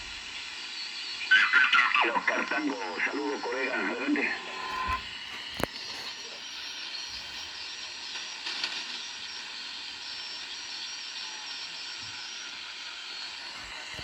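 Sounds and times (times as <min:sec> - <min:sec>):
radio crackle: 0:00.0 - 0:11.3, 0:13.1 - 0:14.0
radio static hiss: 0:00.0 - 0:14.0.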